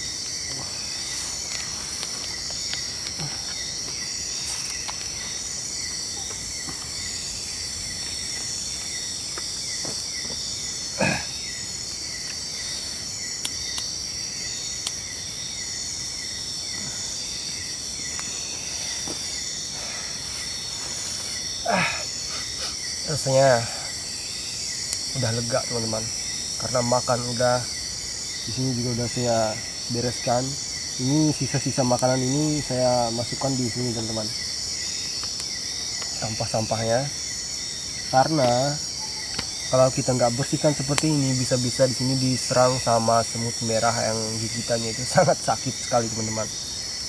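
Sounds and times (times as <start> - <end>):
crickets trilling and chirping: 0.0 - 47.0.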